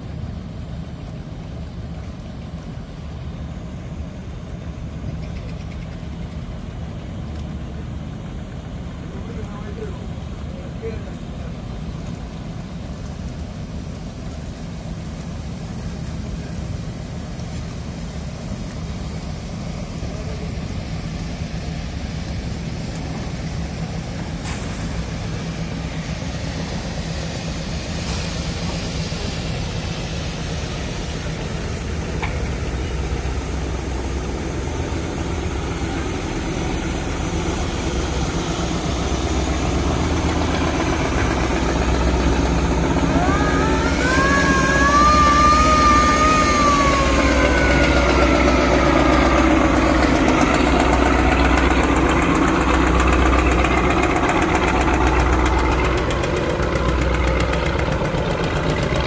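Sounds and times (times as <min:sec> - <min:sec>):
boat engines droning: 0:00.0 - 0:59.0.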